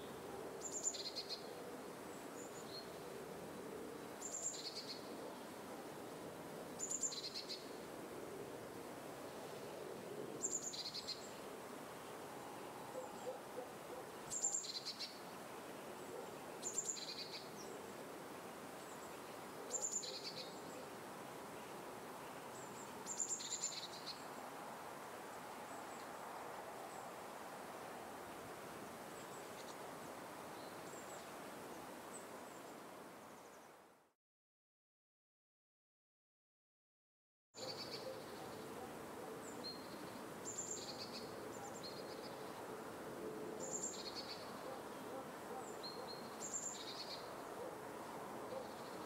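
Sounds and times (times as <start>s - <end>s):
faint outdoor hiss: 0.0s - 34.2s, 37.6s - 49.0s.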